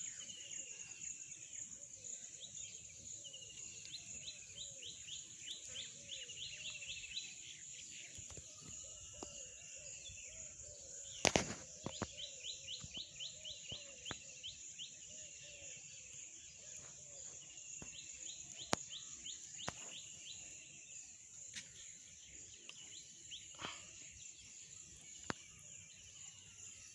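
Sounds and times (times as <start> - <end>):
birds chirping: 0.0 - 26.9.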